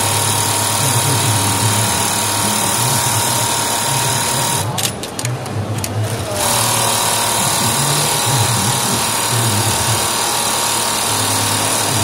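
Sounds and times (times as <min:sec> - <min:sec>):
sewing machine running: 0:00.0 - 0:05.2, 0:05.8 - 0:12.0.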